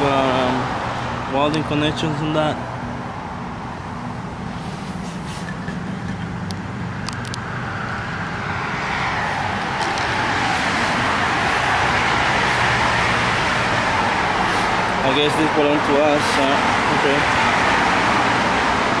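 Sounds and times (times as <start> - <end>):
vehicle rushing noise: 3.0 - 19.0.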